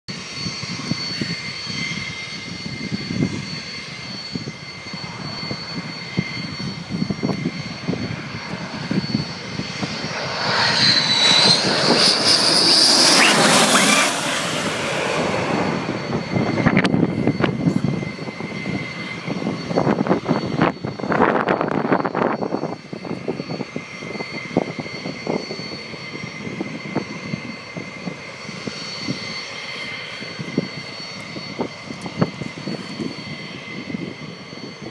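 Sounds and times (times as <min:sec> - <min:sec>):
jet engine whine: 0:00.1 - 0:34.9
low jet rumble: 0:00.1 - 0:34.9.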